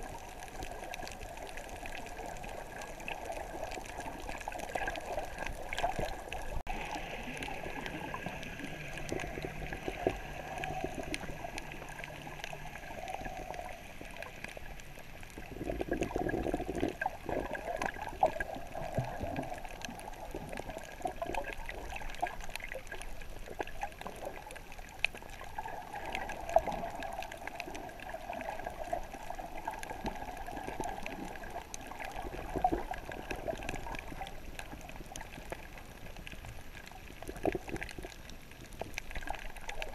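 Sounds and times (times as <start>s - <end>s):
faint underwater clicks: 0.0s - 39.9s
muffled underwater water wash: 0.0s - 39.9s.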